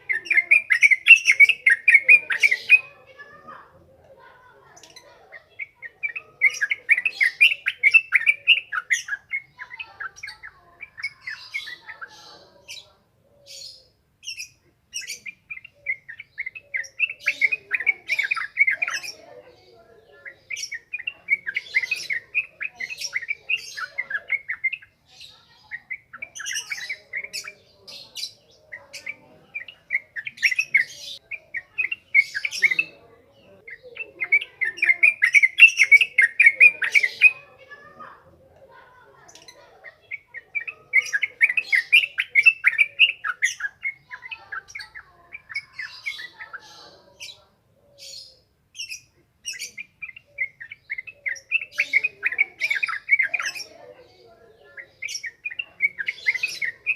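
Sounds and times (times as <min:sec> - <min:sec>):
bird chattering song: 0:00.0 - 0:56.9.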